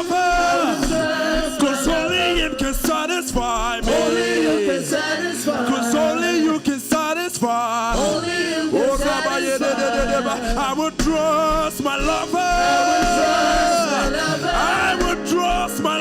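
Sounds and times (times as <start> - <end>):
man singing worship song: 0.0 - 16.0
soft backing music: 0.0 - 16.0.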